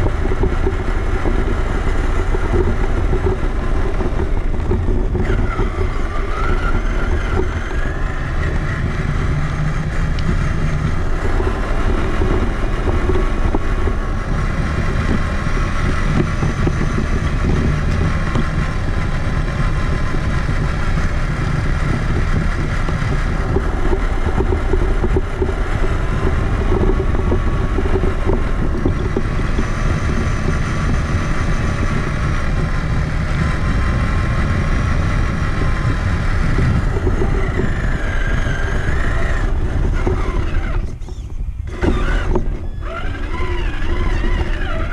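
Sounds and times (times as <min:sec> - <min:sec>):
electric motor and gears whining: 0:00.0 - 0:44.9
tyres rumbling on ground: 0:00.0 - 0:44.9.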